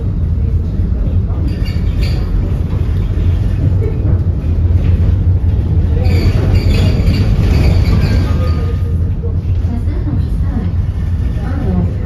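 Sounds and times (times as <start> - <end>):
high bright rail noise: 0.0 - 12.0
tram wheels rumbling on rails: 0.0 - 12.0.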